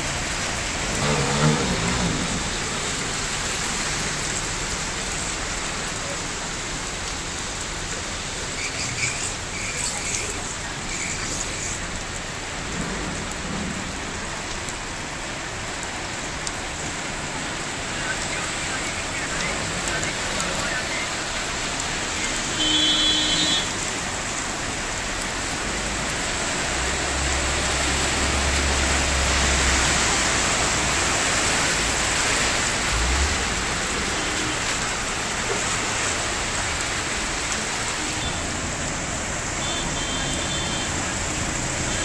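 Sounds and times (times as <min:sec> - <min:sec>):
heavy rain hissing: 0:00.0 - 0:42.0
water splashing: 0:00.0 - 0:42.0.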